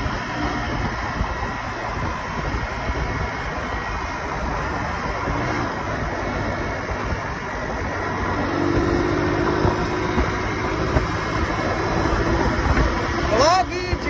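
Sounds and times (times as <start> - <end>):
motorcycle engine cruising: 0.0 - 14.0
wind rushing over microphone: 0.0 - 14.0.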